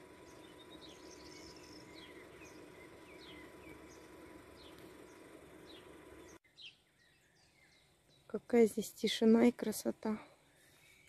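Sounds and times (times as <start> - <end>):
distant bird chirps: 0.0 - 9.4
faint steady hum: 0.0 - 11.0.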